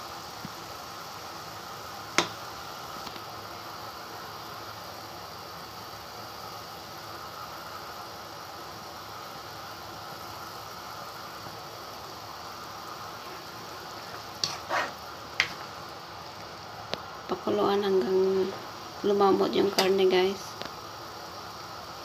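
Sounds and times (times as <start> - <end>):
pot boiling and bubbling: 0.0 - 22.0.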